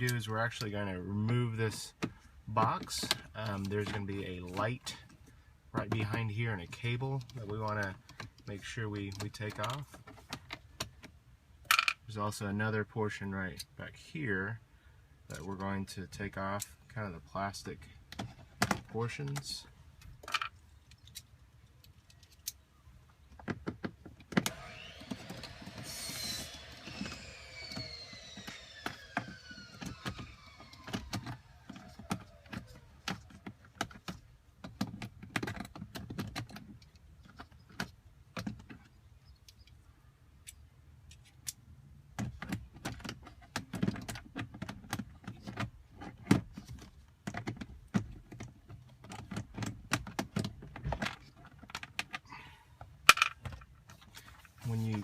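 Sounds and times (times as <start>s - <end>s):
plastic parts clicking and rattling: 0.0s - 12.0s, 18.1s - 22.6s, 23.3s - 39.8s, 40.4s - 52.2s, 52.8s - 55.0s.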